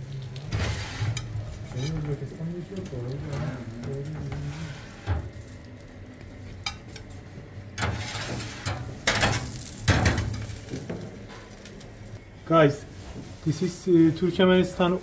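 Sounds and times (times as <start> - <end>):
kitchen background: 0.0 - 15.0.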